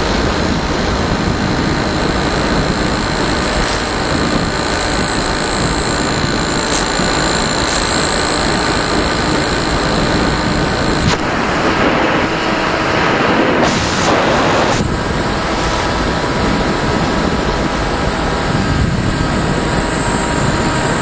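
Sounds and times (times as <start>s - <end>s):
high motor whine: 0.0s - 21.0s
wind rushing over camera: 0.0s - 21.0s.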